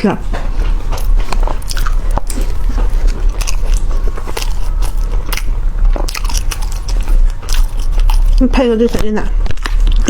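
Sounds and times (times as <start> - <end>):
low hum: 0.0 - 10.0
person chewing: 0.3 - 10.0.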